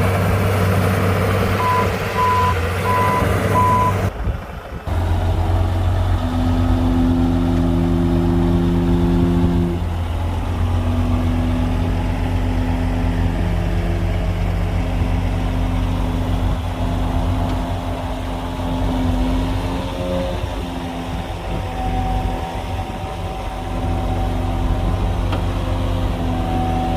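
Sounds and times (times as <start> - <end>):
heavy diesel machinery rumbling: 0.0 - 26.9.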